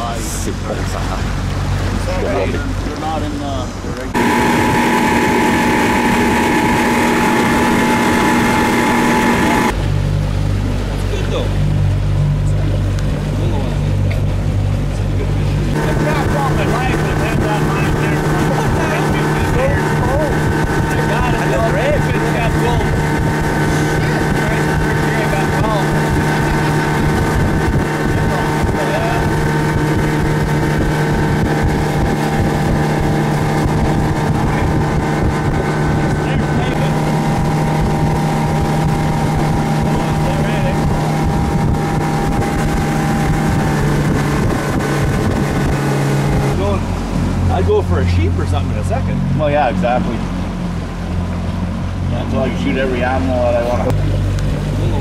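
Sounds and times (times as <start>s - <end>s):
motorboat engine whining: 0.0s - 55.0s
wind buffeting microphone: 0.0s - 55.0s.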